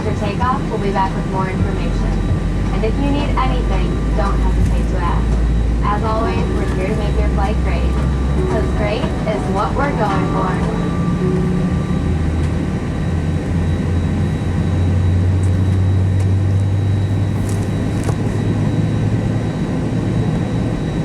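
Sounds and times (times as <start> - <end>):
airliner cabin drone: 0.0 - 21.0
faint high whine: 0.0 - 21.0.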